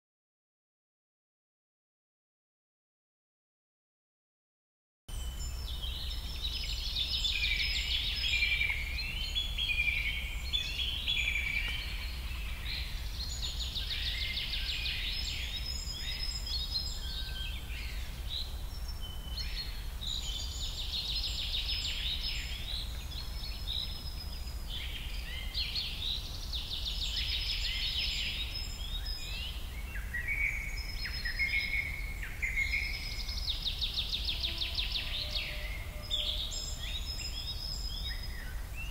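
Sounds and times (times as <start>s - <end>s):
birds chirping and trilling: 5.1s - 38.9s.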